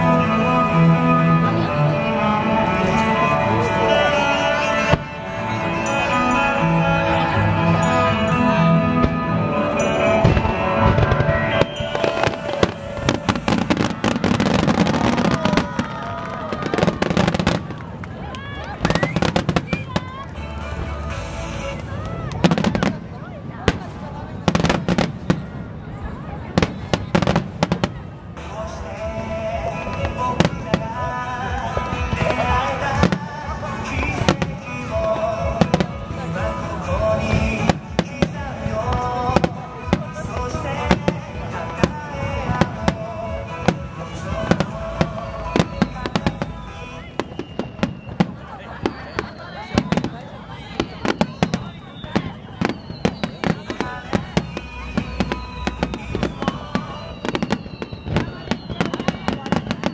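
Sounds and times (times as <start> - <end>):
music playing: 0.0 - 59.9
fireworks bursting: 9.0 - 59.9.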